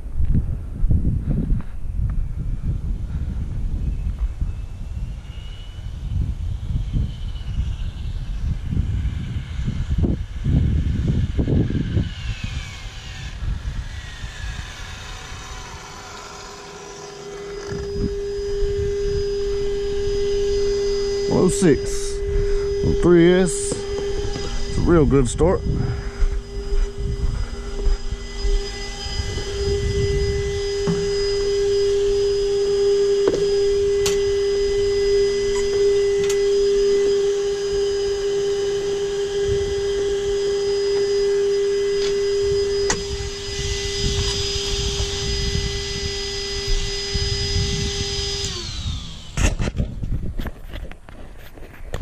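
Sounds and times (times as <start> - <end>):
small cooling fan whining: 0.0 - 52.0.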